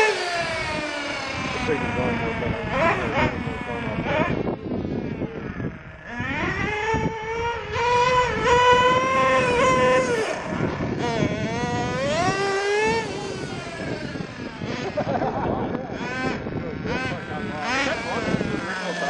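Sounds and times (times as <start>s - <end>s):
model car engine revving: 0.0s - 19.0s.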